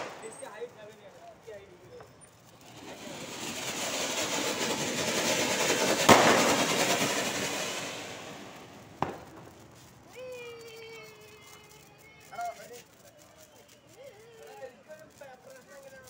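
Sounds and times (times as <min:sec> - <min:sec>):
firework fountain hissing: 0:00.0 - 0:16.0
sharp firework crack: 0:00.0 - 0:16.0.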